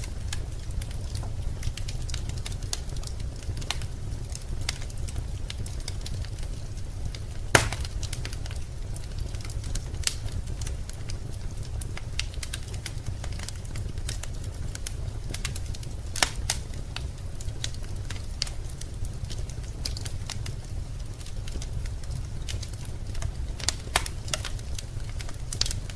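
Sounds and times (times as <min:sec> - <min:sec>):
fire popping: 0:00.0 - 0:25.9
low fire rumble: 0:00.0 - 0:25.9
wood fire crackling: 0:00.0 - 0:25.9.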